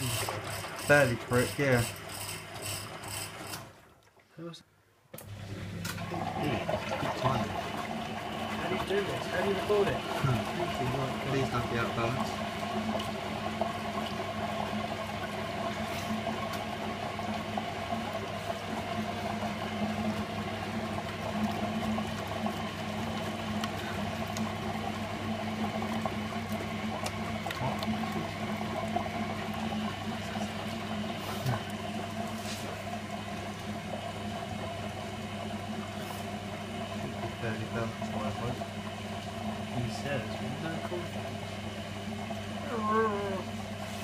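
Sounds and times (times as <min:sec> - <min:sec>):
washing machine motor hum: 0:00.0 - 0:04.5, 0:05.2 - 0:44.0
water sloshing and gurgling: 0:02.0 - 0:04.4, 0:05.7 - 0:44.0.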